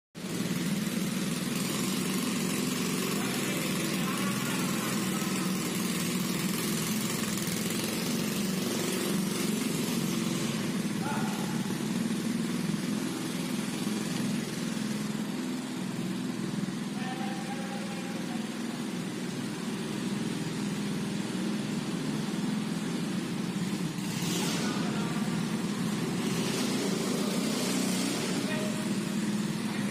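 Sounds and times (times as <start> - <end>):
scooter engine running: 0.2 - 29.9.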